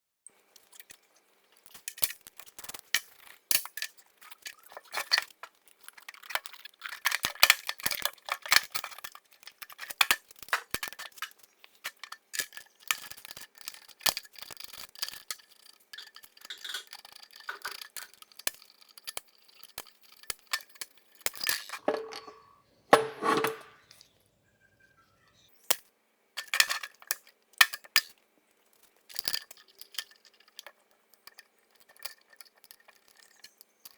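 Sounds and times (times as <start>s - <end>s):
metal tools clicking and clinking: 1.6s - 23.8s, 26.4s - 28.1s, 28.9s - 33.9s.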